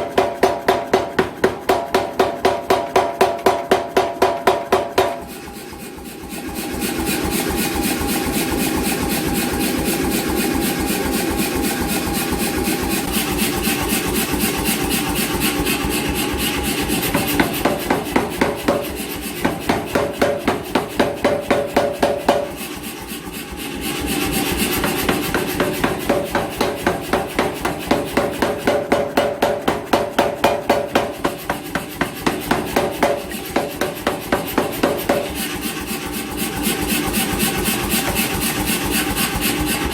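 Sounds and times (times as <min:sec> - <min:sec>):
power hammer striking hot steel: 0:00.0 - 0:39.9.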